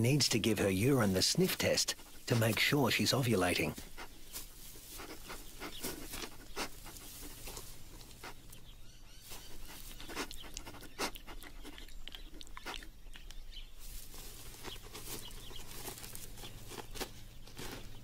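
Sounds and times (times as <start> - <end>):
kangaroo sniffing and snuffling: 0.0 - 18.0.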